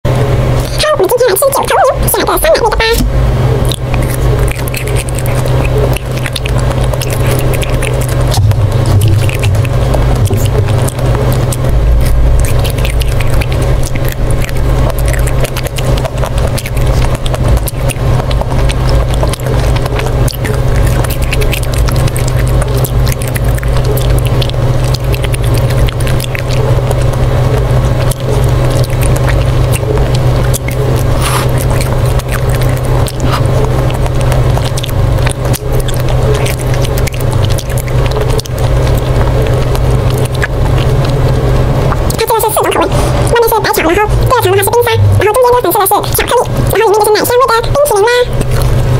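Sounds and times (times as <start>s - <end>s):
low hum: 0.0s - 48.9s
chewing ice cream bar: 0.2s - 48.9s.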